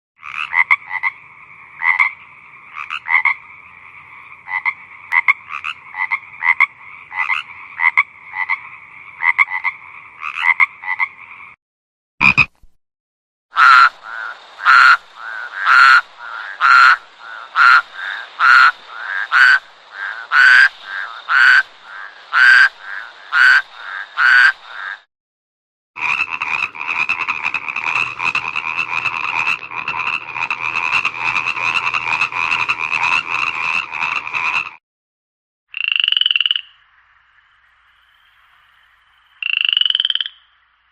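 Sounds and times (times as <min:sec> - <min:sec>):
frogs croaking: 0:00.2 - 0:11.6, 0:12.2 - 0:12.5, 0:13.5 - 0:25.1, 0:26.0 - 0:34.8, 0:35.7 - 0:40.9.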